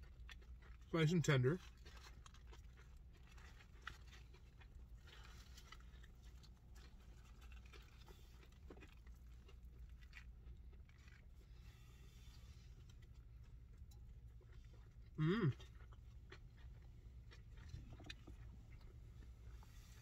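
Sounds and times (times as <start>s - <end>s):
chewing crispy food: 0.0s - 20.0s
low steady hum: 0.0s - 20.0s.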